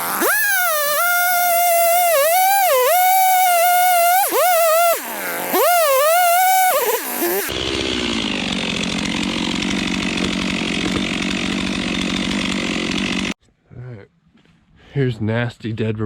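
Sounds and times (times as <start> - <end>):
chainsaw cutting wood: 0.0 - 13.4.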